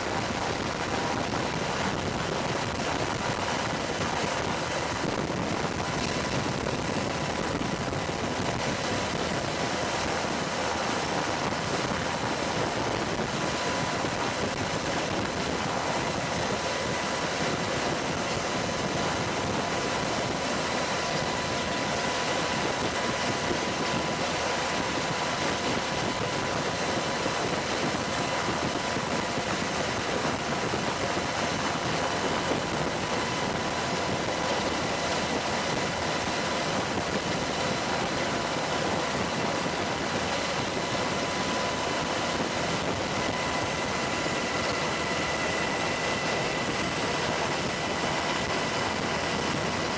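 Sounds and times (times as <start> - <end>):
helicopter turbine engines whining: 0.0 - 49.9.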